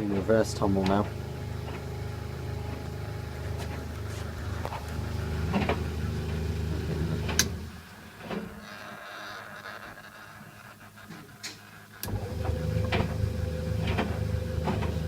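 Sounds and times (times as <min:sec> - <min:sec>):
tumble dryer motor hum: 0:00.0 - 0:08.9, 0:09.6 - 0:15.0.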